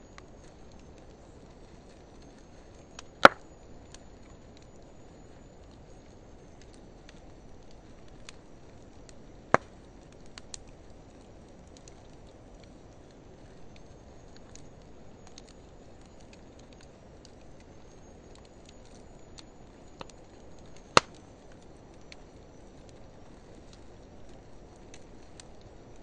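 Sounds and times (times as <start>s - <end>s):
firewood burning with hiss: 0.0s - 26.0s
small crackles of fire: 0.0s - 26.0s.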